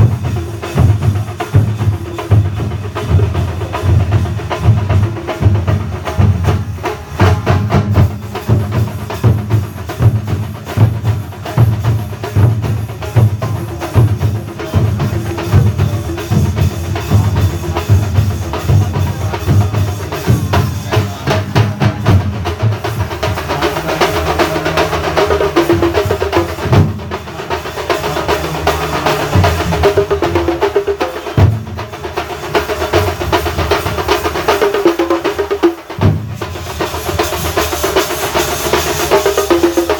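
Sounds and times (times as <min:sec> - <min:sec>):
melodic line over drums: 0:00.0 - 0:39.9
percussion ensemble drumming: 0:00.0 - 0:39.9.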